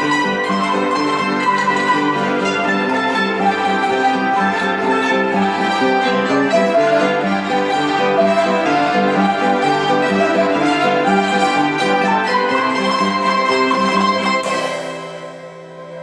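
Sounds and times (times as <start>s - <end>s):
hammered dulcimers playing: 0.0s - 16.0s
string ensemble: 0.0s - 16.0s.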